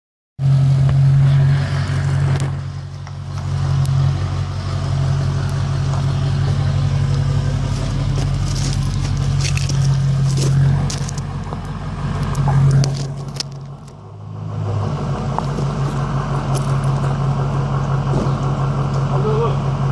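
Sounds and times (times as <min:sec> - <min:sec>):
truck engine droning: 0:00.4 - 0:19.9.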